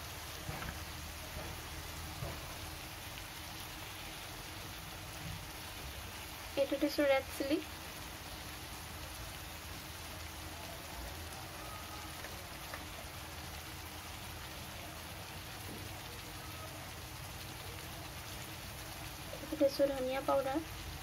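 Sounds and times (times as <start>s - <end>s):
masala sizzling in hot oil: 0.0s - 21.0s.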